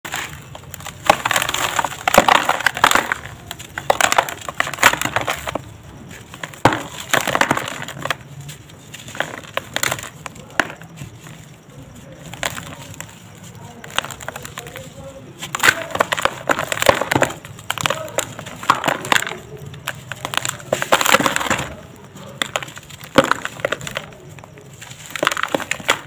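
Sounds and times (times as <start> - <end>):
sand cement crumbling by hand: 0.1 - 26.0.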